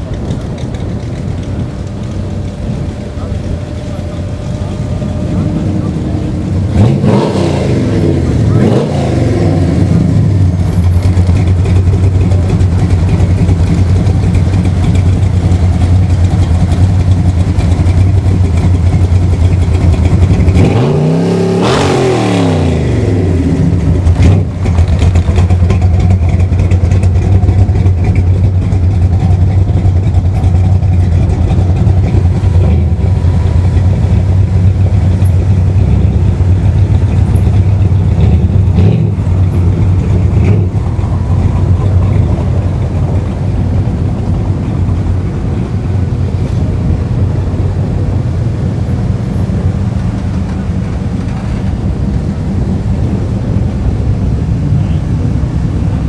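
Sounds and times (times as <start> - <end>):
pickup engine idling loudly: 0.0 - 21.2, 22.8 - 56.0.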